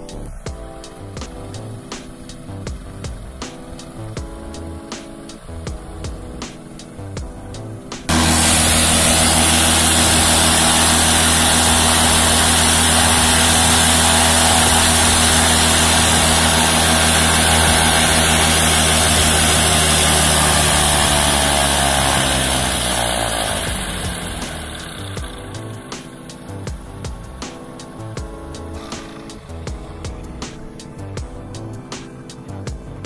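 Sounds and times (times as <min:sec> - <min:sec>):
paramotor engine running: 0:00.0 - 0:33.0.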